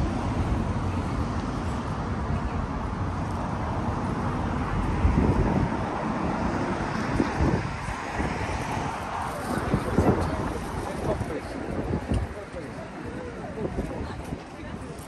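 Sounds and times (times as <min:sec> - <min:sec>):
loud traffic rumble: 0:00.0 - 0:15.0
road traffic noise: 0:00.0 - 0:15.0.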